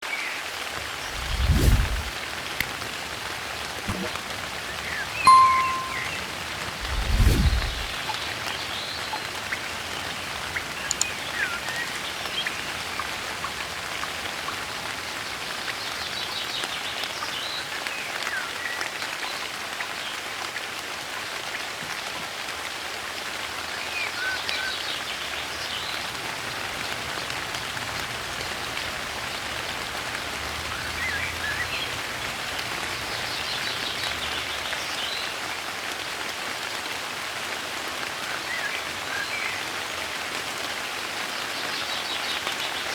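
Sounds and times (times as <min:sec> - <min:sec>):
soft rain falling: 0:00.0 - 0:05.6, 0:06.2 - 0:42.9.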